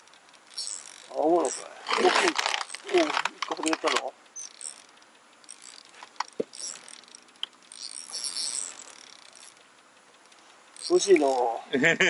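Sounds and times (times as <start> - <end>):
fishing reel cranking whir: 0.0 - 11.6.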